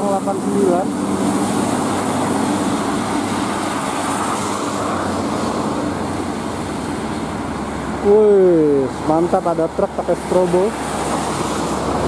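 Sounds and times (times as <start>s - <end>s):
tyres hissing on wet road: 0.0s - 12.0s.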